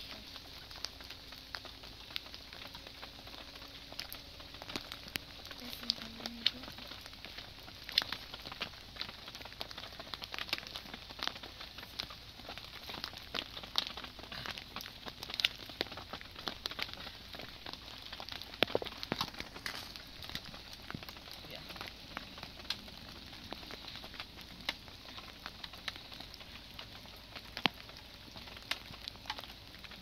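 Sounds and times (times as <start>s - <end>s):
rain pattering: 0.0s - 30.0s
wood fire crackling: 0.0s - 30.0s.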